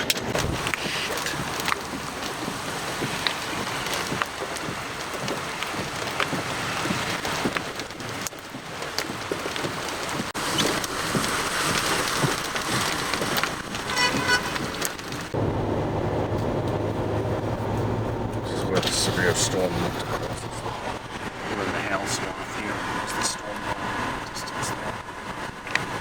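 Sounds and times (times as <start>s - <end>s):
raindrops ticking: 0.0s - 26.0s
steady rain falling: 0.0s - 26.0s.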